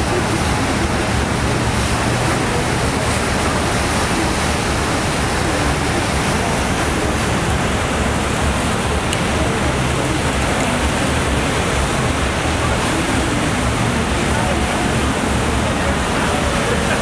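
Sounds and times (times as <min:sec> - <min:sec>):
water rushing past boat: 0:00.0 - 0:17.0.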